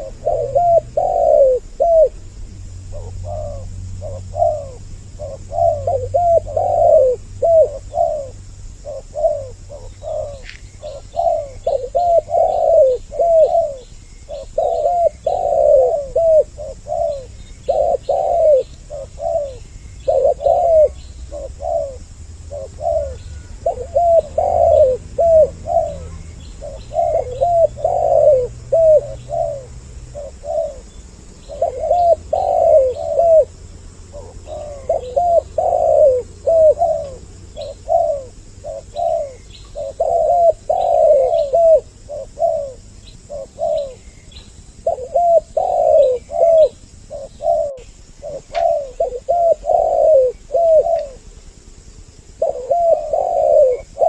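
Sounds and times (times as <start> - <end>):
doves cooing: 0.0 - 51.4, 52.3 - 54.0.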